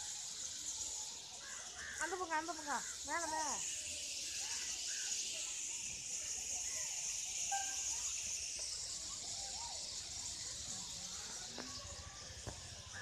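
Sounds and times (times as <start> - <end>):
bird calls: 0.0 - 13.0
high-pitched hiss: 0.0 - 13.0.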